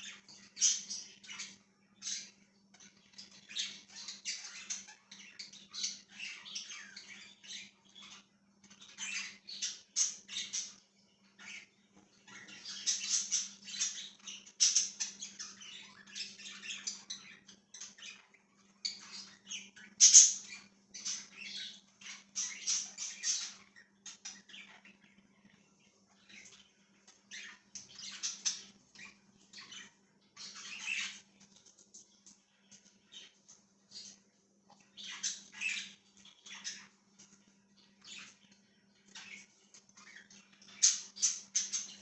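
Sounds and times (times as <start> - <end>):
budgies chirping and squawking: 0.0 - 42.0
faint low hum: 0.0 - 42.0.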